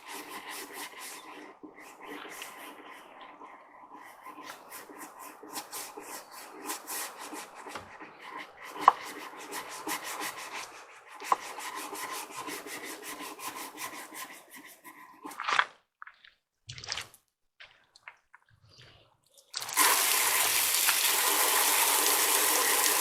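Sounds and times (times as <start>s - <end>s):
brush scrubbing wooden steps: 0.0s - 15.4s, 19.8s - 23.0s.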